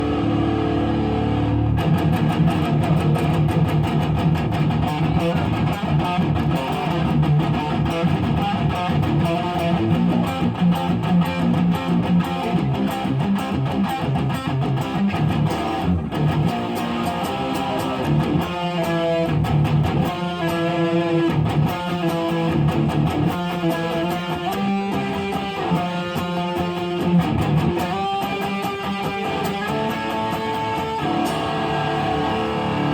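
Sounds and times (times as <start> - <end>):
electric guitar playing: 0.0 - 32.9.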